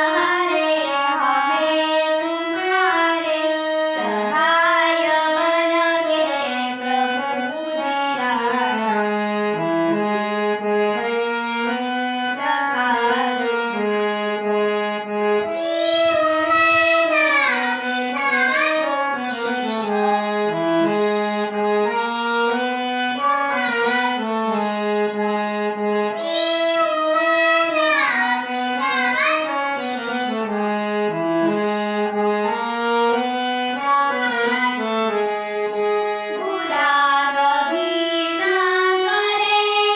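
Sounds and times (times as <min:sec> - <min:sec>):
reed instrument devotional melody: 0:00.0 - 0:39.9.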